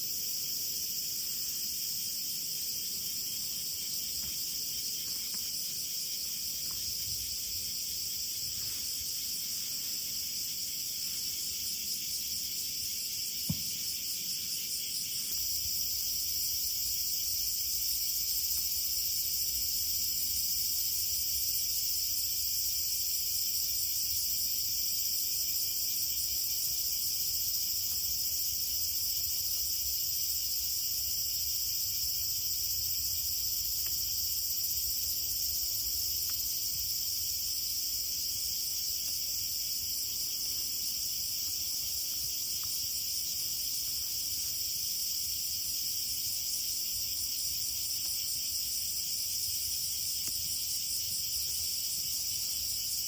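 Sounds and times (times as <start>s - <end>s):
crickets chirping chorus: 0.0s - 53.0s.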